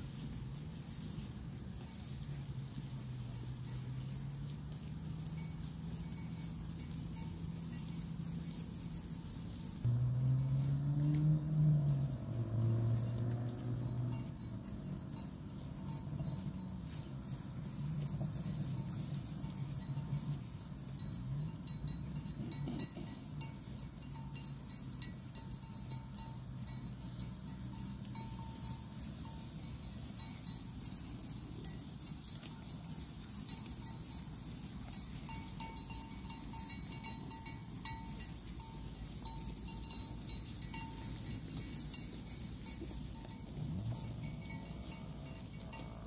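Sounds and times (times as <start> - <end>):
sheep cropping grass: 0.0 - 24.4, 25.0 - 46.0
sheep bells clinking: 0.0 - 46.0.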